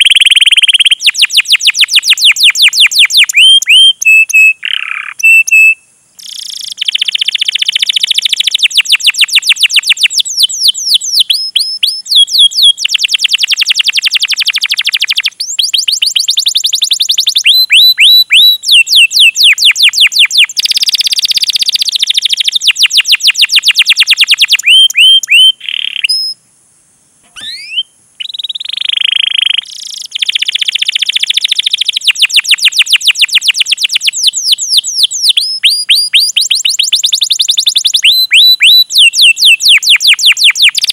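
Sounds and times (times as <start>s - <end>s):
canary singing: 0.0s - 26.4s, 27.3s - 40.9s.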